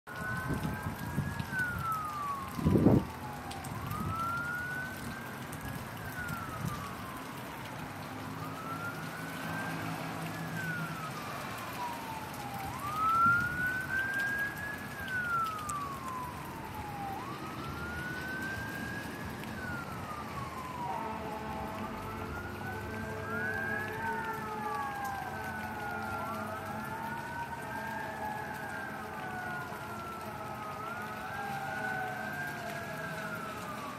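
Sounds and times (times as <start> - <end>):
emergency siren wailing: 0.1 - 33.9
second siren wailing: 0.1 - 33.9
rain hiss: 0.2 - 33.9.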